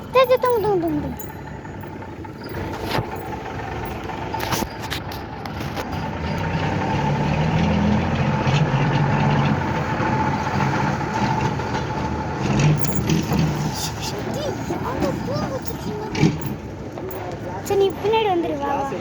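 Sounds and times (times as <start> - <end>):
motor engine whining: 0.0 - 19.0.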